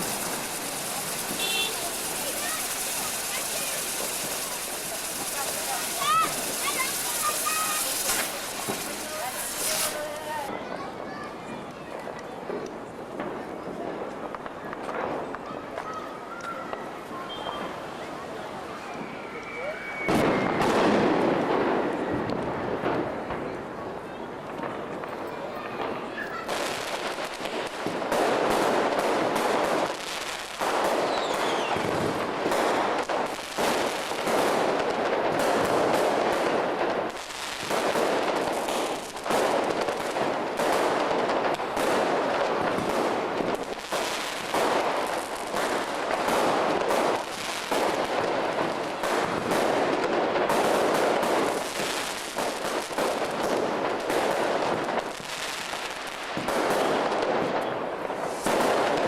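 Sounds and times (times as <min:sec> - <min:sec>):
firecrackers crackling: 0:00.0 - 0:59.0.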